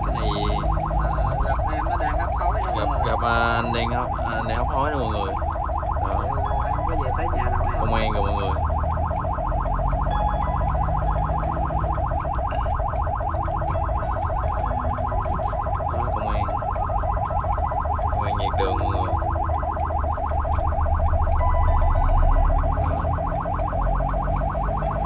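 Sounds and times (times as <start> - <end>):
ambulance siren yelping: 0.0 - 25.0.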